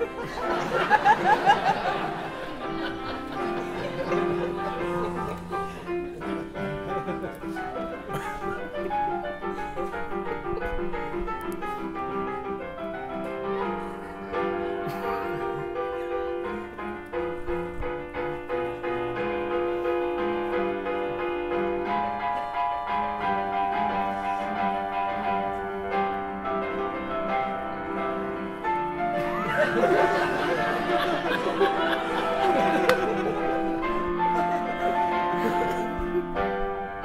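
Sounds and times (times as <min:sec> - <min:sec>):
silent film piano music: 0:00.0 - 0:37.0.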